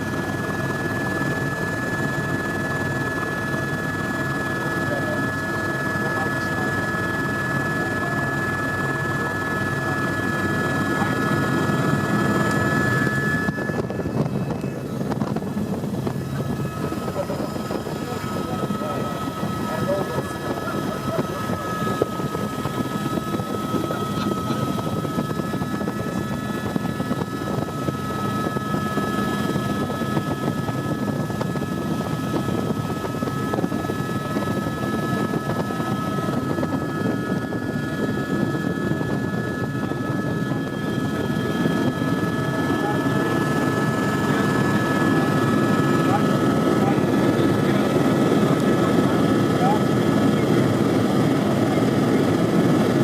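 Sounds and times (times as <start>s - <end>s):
helicopter engine and rotor noise: 0.0s - 53.0s.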